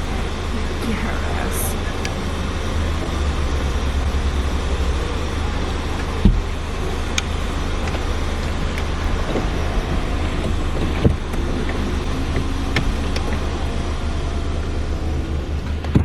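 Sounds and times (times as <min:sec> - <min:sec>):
machine running: 0:00.0 - 0:16.0.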